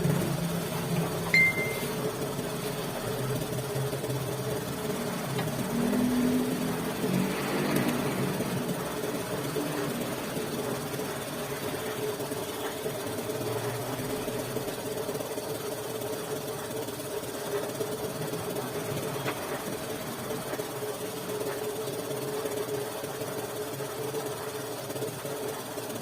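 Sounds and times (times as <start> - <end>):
motorcycle engine running steadily: 0.0 - 26.0.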